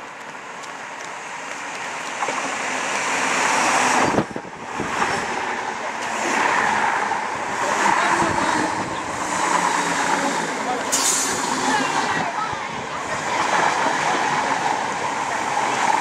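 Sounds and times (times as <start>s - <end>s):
electric train passing at speed: 0.8s - 16.0s.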